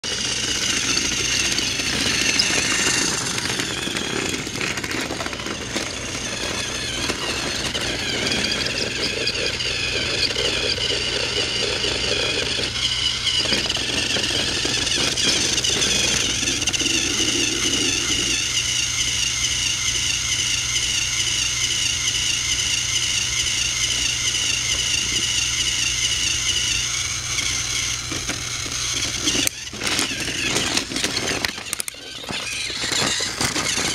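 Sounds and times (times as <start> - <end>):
toy train motor whine: 0.0 - 33.9
toy train rattle on track: 0.0 - 33.9.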